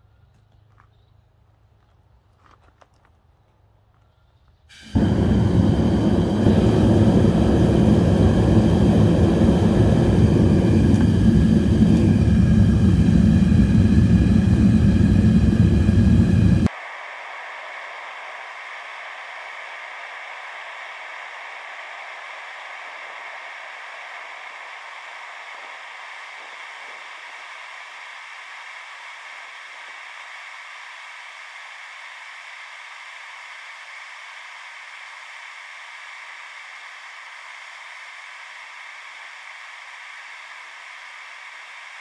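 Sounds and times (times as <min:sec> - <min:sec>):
propane burner hissing: 0:04.7 - 0:42.0.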